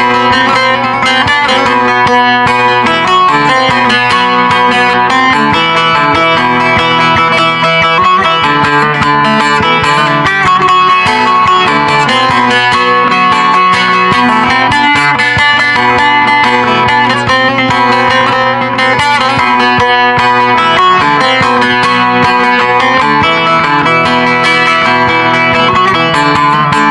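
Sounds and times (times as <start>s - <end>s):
long-necked lute folk melody: 0.0s - 26.9s.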